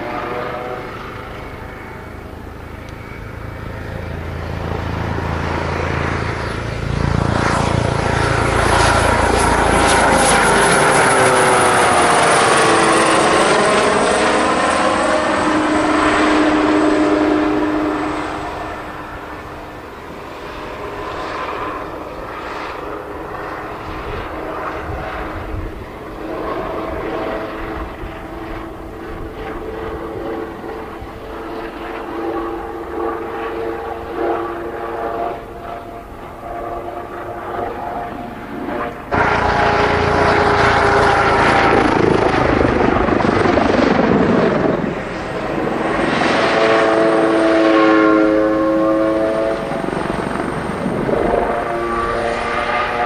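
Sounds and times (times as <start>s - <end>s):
helicopter flying past: 0.0s - 53.0s.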